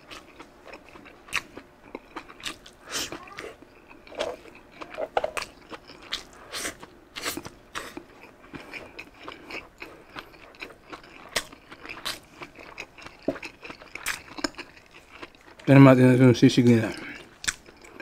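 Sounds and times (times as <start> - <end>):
chewing with wet smacks: 0.0 - 15.7, 16.6 - 18.0.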